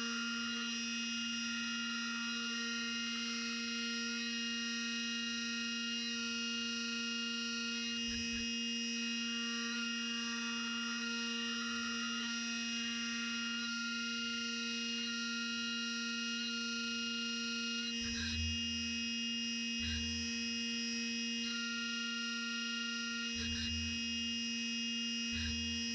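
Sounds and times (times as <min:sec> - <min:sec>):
milling machine spindle whine: 0:00.0 - 0:23.8.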